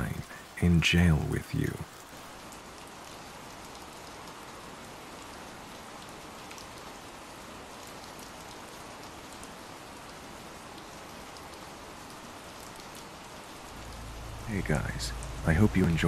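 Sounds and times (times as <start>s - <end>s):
rain hiss: 0.0s - 16.0s
sharp ticks of raindrops: 0.0s - 16.0s.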